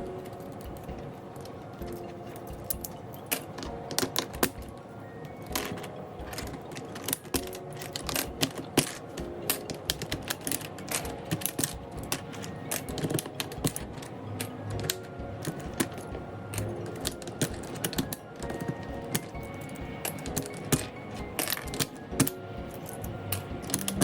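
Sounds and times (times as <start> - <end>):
mechanical keyboard clicking: 0.0 - 24.0.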